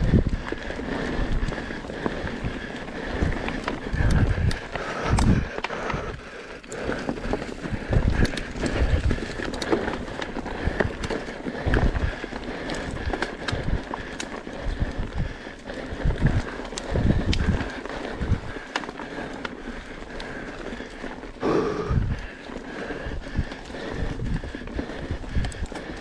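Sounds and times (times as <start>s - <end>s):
bike tyres rolling over dirt: 0.0s - 26.0s.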